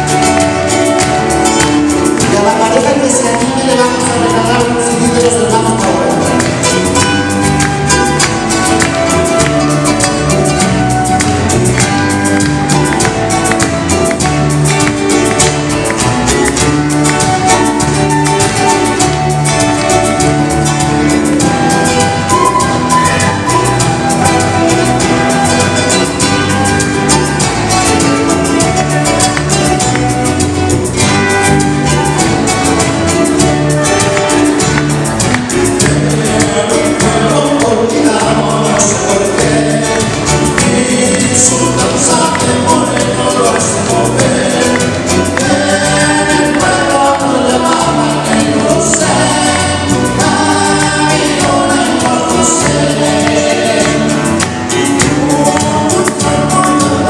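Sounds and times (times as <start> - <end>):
bass notes: 0.0 - 57.0
plucked guitars: 0.0 - 57.0.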